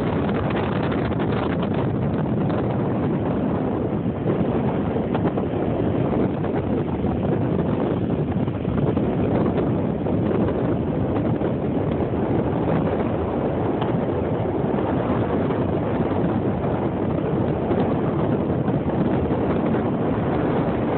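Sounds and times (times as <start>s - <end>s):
strong wind on microphone: 0.0s - 20.9s.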